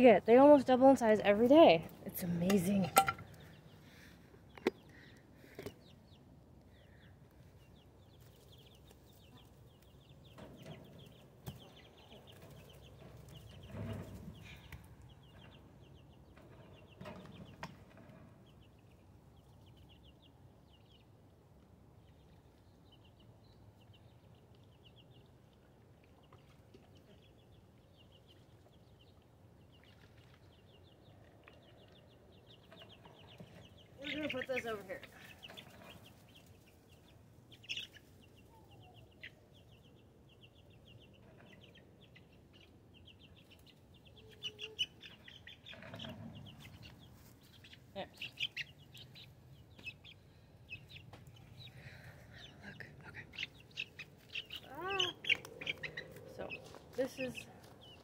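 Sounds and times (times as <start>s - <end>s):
chicks peeping: 1.5s - 58.0s.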